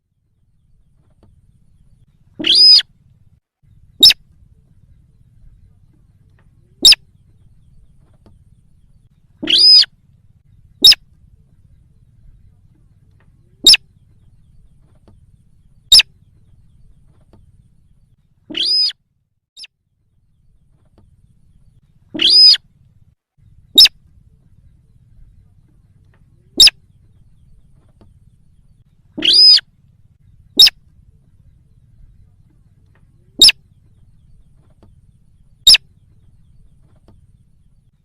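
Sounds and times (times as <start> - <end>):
faint low hum: 0.0 - 38.0
recorded bird call: 0.4 - 19.0, 19.6 - 38.0.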